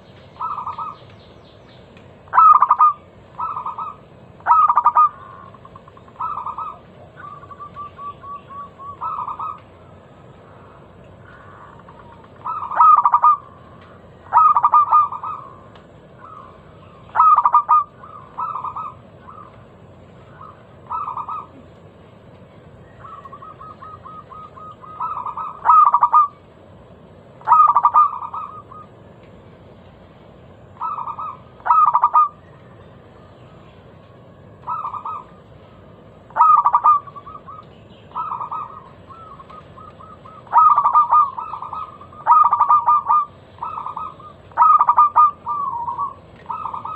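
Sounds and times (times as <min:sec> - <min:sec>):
dove cooing: 0:00.0 - 0:01.1, 0:02.3 - 0:21.9, 0:22.8 - 0:26.4, 0:27.4 - 0:29.0, 0:30.7 - 0:32.9, 0:34.5 - 0:46.9.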